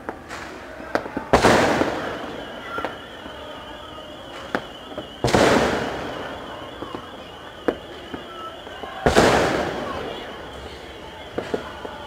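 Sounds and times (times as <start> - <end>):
firecracker cracks: 0.0 - 12.0
firework big bang with echo: 0.0 - 12.0.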